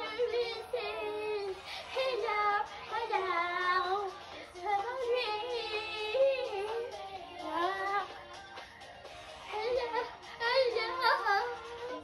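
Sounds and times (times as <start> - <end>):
girl singing into microphone: 0.0 - 8.2, 9.4 - 12.0.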